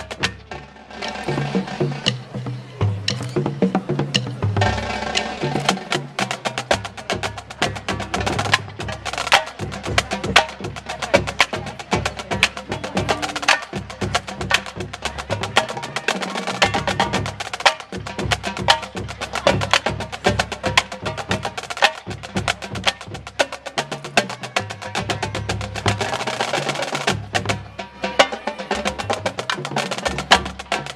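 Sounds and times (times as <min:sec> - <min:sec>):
drumline cadence: 0:00.0 - 0:30.9
marching bands playing: 0:00.0 - 0:30.9.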